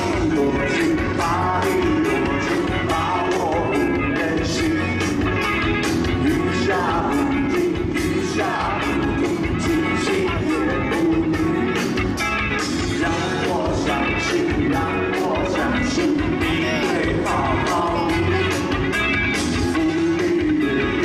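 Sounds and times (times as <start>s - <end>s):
person singing: 0.0s - 12.0s, 12.6s - 21.0s
rock band playing: 0.0s - 21.0s.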